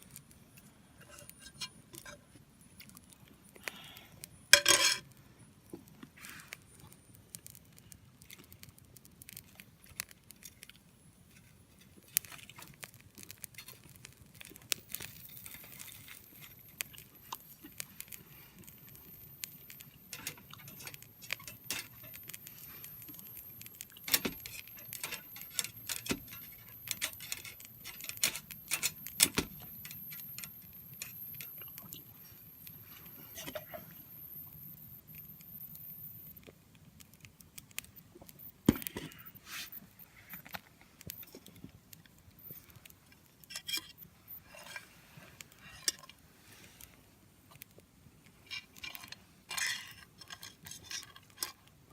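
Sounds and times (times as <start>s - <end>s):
wood fire crackling and popping: 0.0s - 51.9s.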